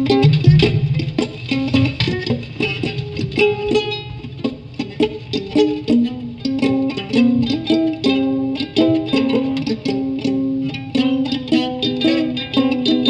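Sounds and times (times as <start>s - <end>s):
ukulele blues lick: 0.0s - 13.0s.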